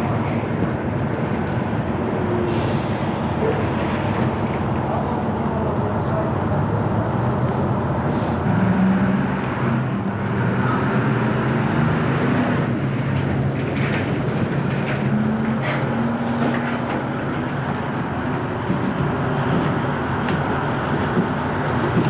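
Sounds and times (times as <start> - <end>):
diesel bus engines running: 0.0 - 22.0.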